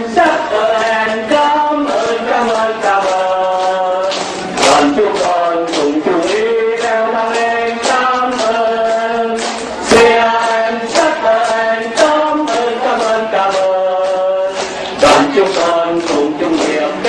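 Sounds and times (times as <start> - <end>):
group singing in unison: 0.0 - 17.0
hand claps keeping time: 0.1 - 17.0.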